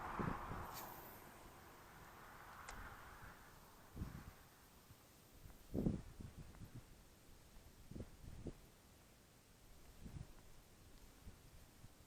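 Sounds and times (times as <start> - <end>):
faint low bumps: 0.0 - 12.0.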